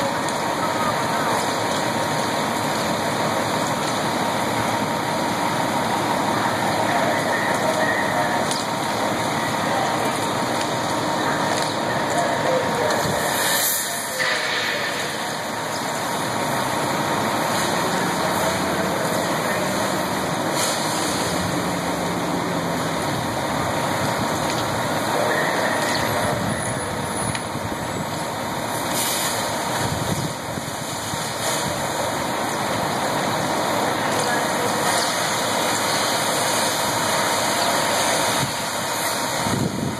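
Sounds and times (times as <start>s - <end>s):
constant rushing hiss: 0.0s - 39.9s
diesel engine running: 0.0s - 39.9s.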